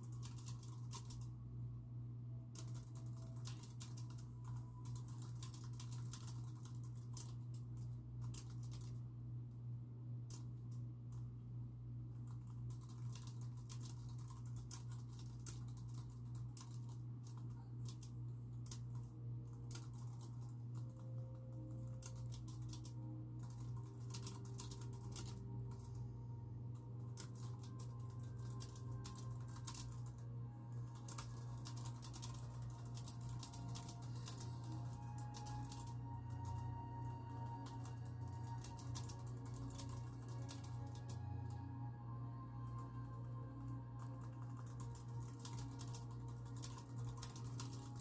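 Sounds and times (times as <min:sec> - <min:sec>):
typing on keyboard: 0:00.0 - 0:01.3, 0:02.5 - 0:09.0, 0:10.3 - 0:11.3, 0:12.1 - 0:41.6, 0:42.6 - 0:48.0
low hum: 0:00.0 - 0:48.0.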